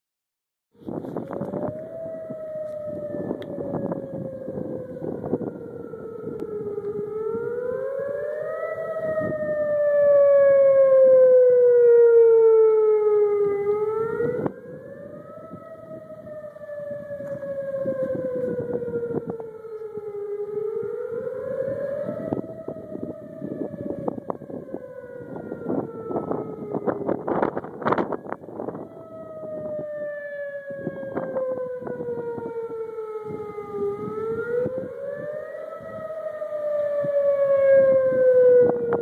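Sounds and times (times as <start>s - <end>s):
warning siren wailing: 0.8s - 39.0s.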